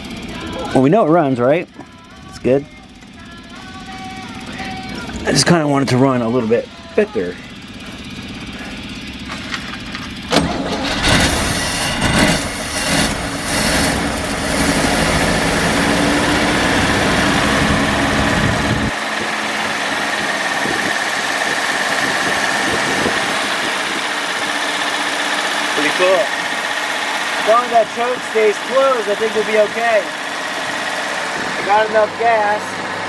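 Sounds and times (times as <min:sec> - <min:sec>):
engine surging and running: 0:00.0 - 0:33.0.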